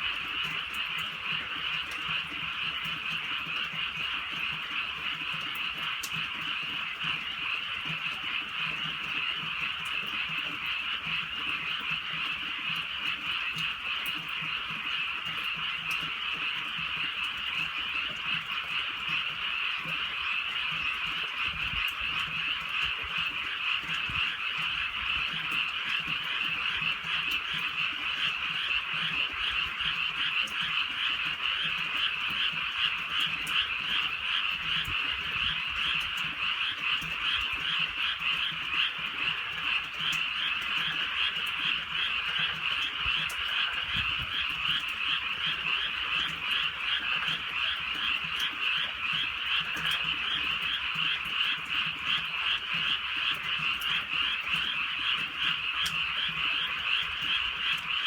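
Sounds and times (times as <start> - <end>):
frogs croaking in chorus: 0.0 - 58.0.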